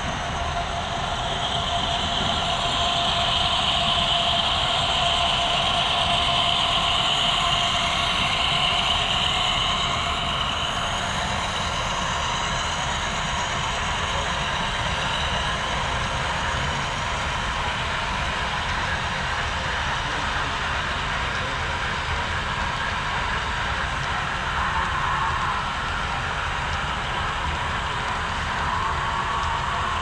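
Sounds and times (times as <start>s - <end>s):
model train running hum: 0.0s - 30.0s.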